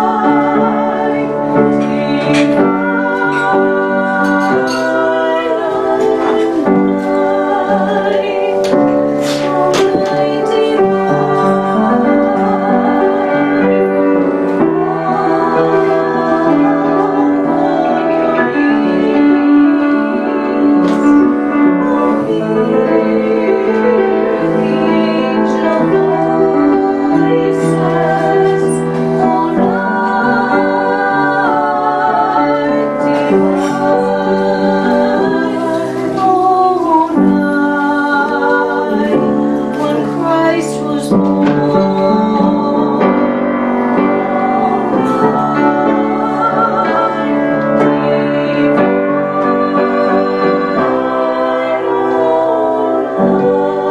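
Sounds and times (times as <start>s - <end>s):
song with piano: 0.0s - 53.9s.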